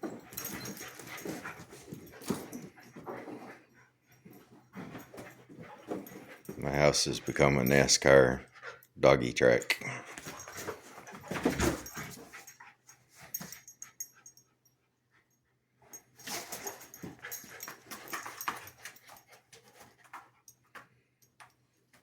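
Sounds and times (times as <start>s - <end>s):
puppies scuffling and clicking: 0.0s - 9.0s, 10.0s - 22.0s.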